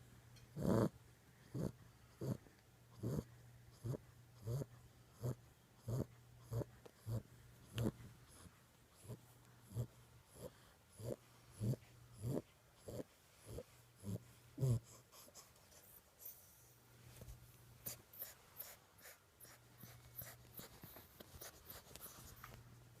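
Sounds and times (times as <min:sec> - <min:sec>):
puppy snoring: 0:00.5 - 0:16.8, 0:17.8 - 0:22.2.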